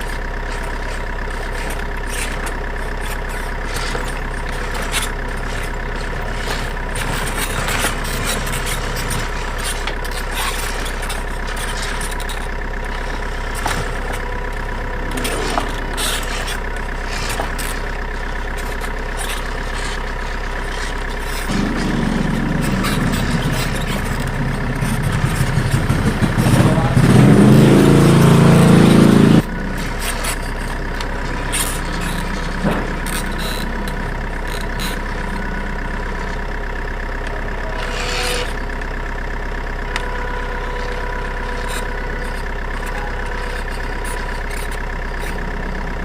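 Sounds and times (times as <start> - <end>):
deep rumble: 0.0 - 46.0
toy truck engine idling: 0.0 - 46.0.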